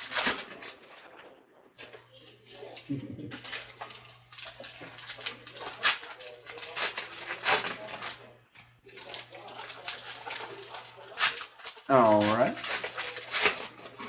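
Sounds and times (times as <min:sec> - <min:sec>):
wrappers tearing and crinkling: 0:00.0 - 0:01.2, 0:02.6 - 0:14.0.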